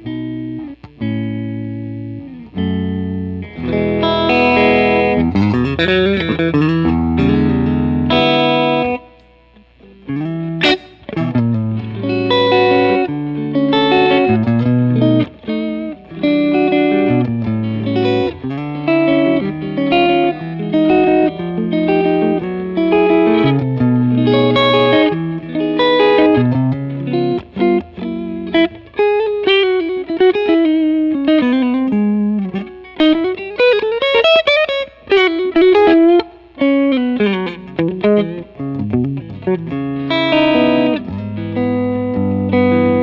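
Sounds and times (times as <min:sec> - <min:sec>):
clean electric guitar playing: 0:00.0 - 0:43.0.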